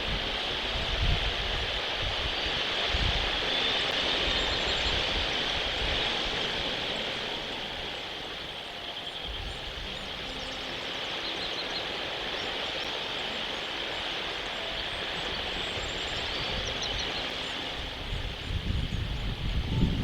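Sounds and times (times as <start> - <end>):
steady high hiss: 0.0 - 20.0
wind rumbling on microphone: 0.0 - 20.0.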